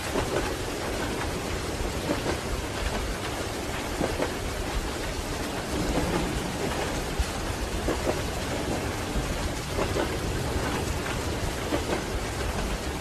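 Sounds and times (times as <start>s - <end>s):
moving train rumble: 0.0s - 13.0s
rain on a train window: 0.0s - 13.0s
train wheels clacking on rail joints: 0.0s - 13.0s.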